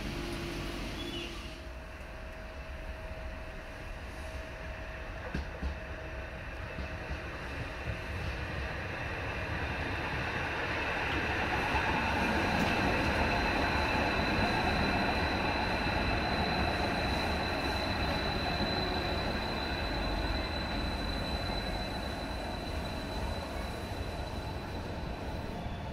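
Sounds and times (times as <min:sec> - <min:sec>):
high-pitched train whine: 0:00.0 - 0:25.9
train wheels rushing on rail: 0:00.0 - 0:25.9.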